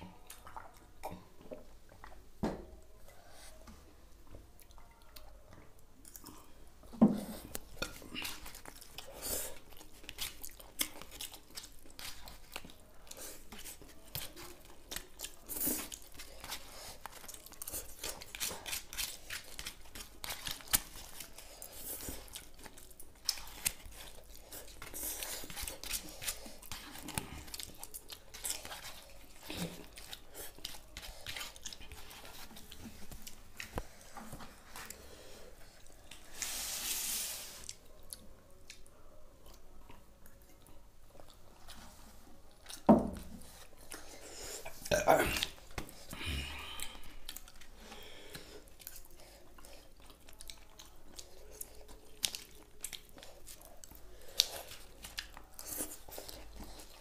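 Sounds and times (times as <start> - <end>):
people chewing noodles: 0.0 - 2.3, 4.5 - 36.7, 37.4 - 57.0.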